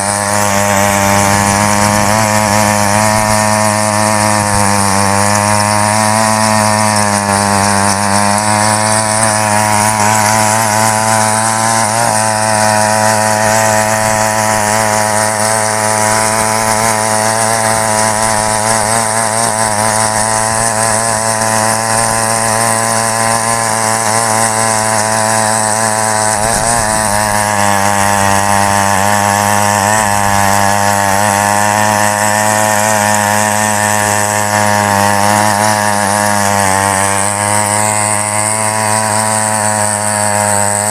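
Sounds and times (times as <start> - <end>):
rotary tines churning soil: 0.0 - 40.9
small petrol engine running: 0.0 - 40.9.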